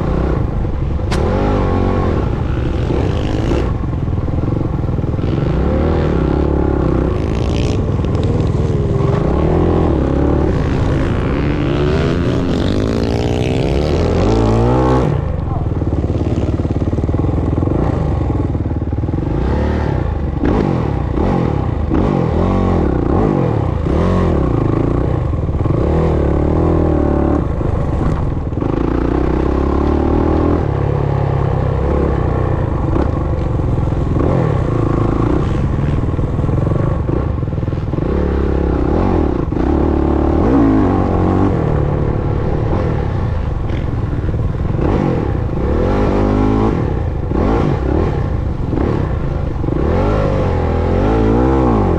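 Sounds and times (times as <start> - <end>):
dirt bike engine revving: 0.0 - 33.2, 33.8 - 51.9.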